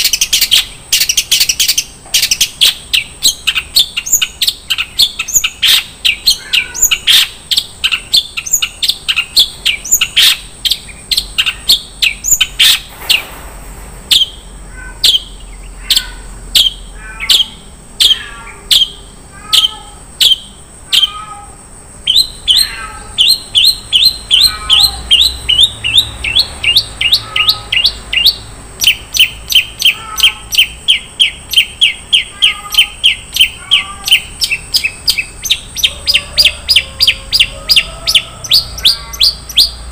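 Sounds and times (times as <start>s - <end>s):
bird singing sharp chirps: 0.0s - 13.4s, 14.1s - 21.2s, 22.1s - 39.9s.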